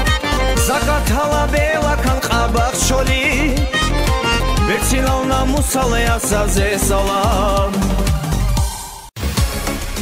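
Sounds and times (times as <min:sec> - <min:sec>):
electronic dance track: 0:00.0 - 0:10.0
sung song: 0:00.0 - 0:10.0.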